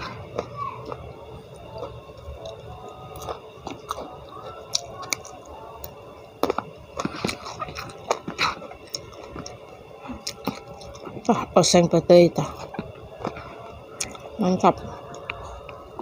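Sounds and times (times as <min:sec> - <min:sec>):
chewing and crunching food: 0:00.0 - 0:11.6, 0:12.4 - 0:16.0.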